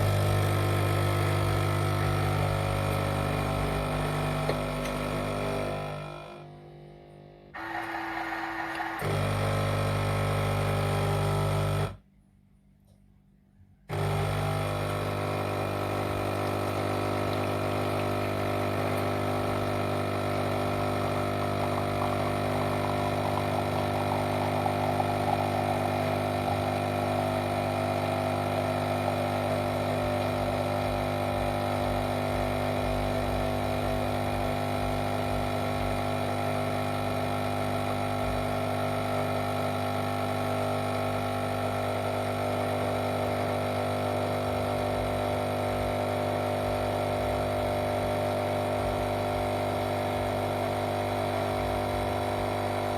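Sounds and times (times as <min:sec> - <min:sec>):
coffee machine humming: 0:00.0 - 0:12.0, 0:13.9 - 0:52.9.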